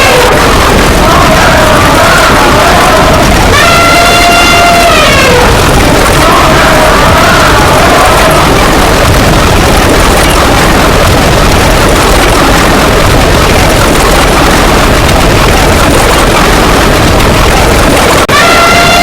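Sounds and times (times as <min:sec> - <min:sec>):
dense layered sound effects din: 0:00.0 - 0:19.0.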